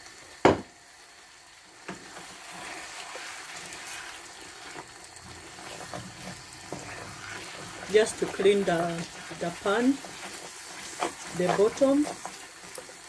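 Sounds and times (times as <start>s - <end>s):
sauce hissing: 2.0s - 13.0s
spoon stirring stew: 2.0s - 13.0s.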